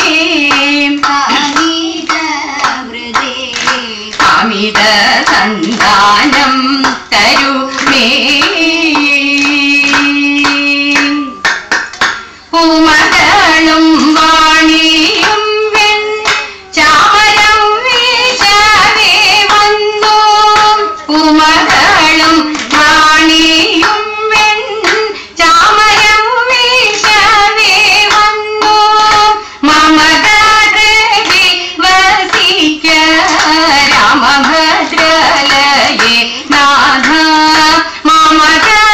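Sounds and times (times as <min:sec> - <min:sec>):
women singing: 0:00.0 - 0:11.6, 0:12.5 - 0:38.9
rhythmic hand claps: 0:00.0 - 0:38.9.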